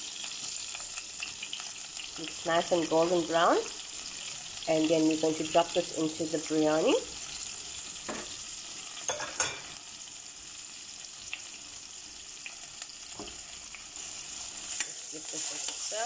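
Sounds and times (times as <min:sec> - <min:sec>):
onion frying in butter: 0:00.0 - 0:16.0.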